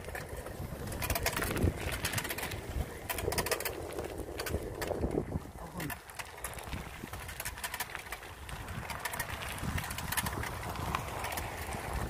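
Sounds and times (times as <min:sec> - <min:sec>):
wind on microphone: 0:00.0 - 0:07.7, 0:08.3 - 0:12.0
bike rattling clicks: 0:00.0 - 0:12.0
tyres rumbling on gravel: 0:00.0 - 0:12.0.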